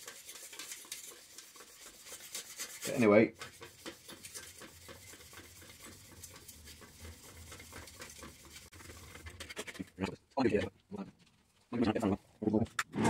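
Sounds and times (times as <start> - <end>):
scrubbing copper sheet: 0.0 - 10.6.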